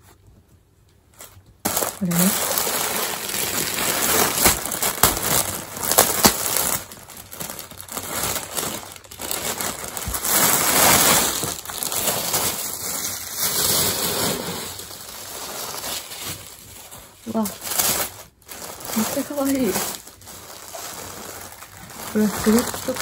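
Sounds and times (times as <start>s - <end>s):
plastic bag crinkling: 1.1s - 23.0s.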